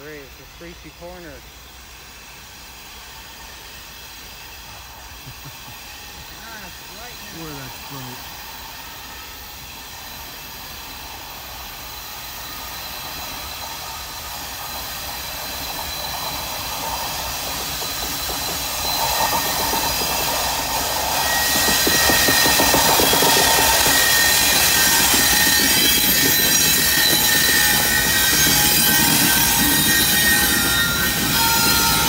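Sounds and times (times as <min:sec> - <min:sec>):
freight train engines and wheels: 0:00.0 - 0:32.0.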